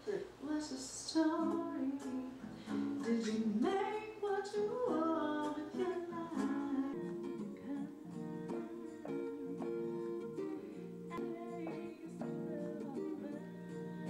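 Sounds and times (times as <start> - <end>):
acoustic guitar: 0.0 - 14.0
woman singing: 0.0 - 14.0.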